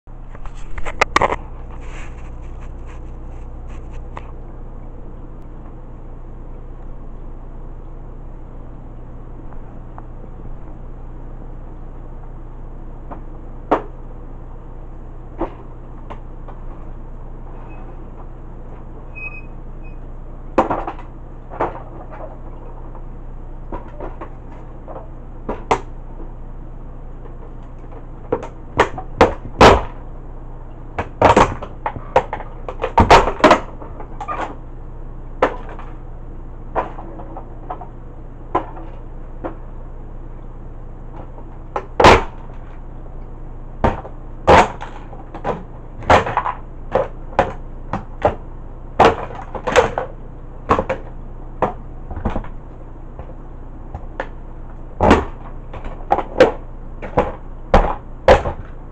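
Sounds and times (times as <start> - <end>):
steady low hum: 0.1 - 58.9.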